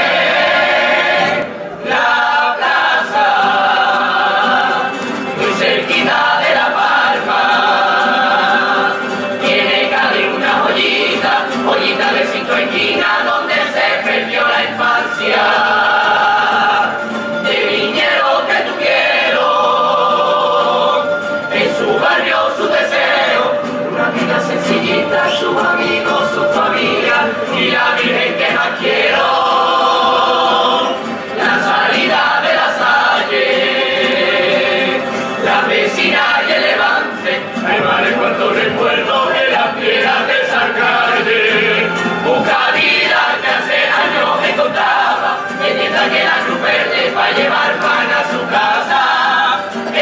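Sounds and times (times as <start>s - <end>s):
choir singing in harmony: 0.0s - 50.0s
strummed guitars: 0.0s - 50.0s.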